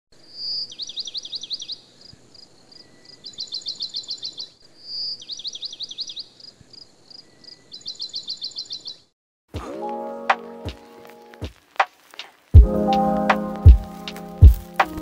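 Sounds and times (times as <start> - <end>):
songbird singing: 0.1 - 9.2, 10.4 - 15.0.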